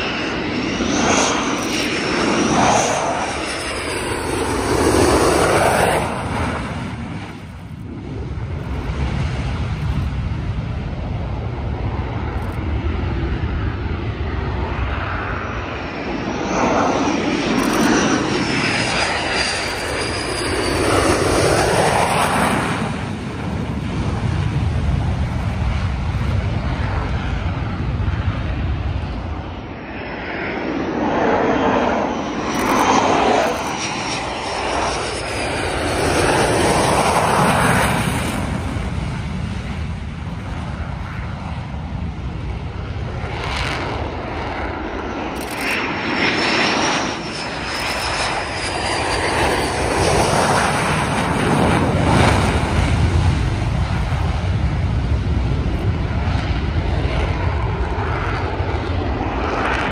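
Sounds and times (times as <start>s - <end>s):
high jet whine: 0.0s - 59.9s
jet aircraft passing: 0.0s - 59.9s.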